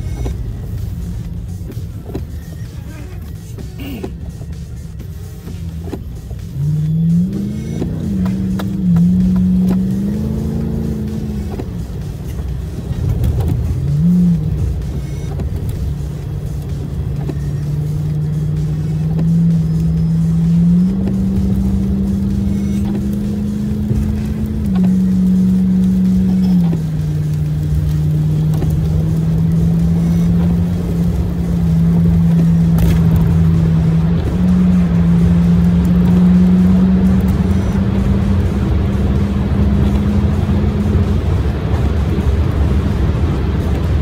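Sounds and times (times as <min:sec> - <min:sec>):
road and engine rumble: 0:00.0 - 0:44.0.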